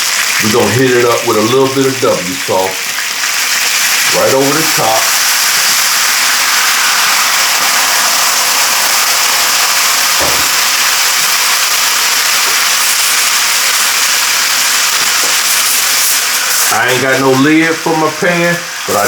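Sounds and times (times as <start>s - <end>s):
chicken sizzling in a skillet: 0.0s - 19.0s.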